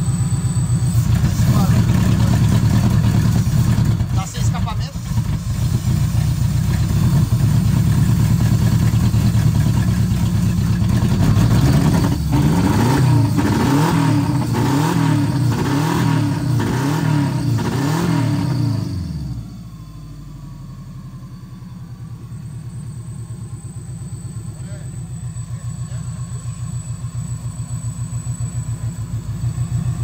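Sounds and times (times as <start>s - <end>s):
car engine running and revving: 0.0s - 21.4s, 22.2s - 30.0s.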